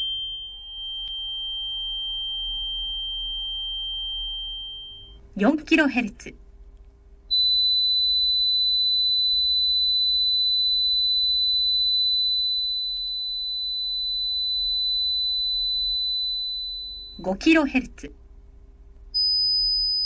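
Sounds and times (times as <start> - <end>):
sine test tone from speaker: 0.0 - 5.2, 7.3 - 17.3, 19.2 - 20.0.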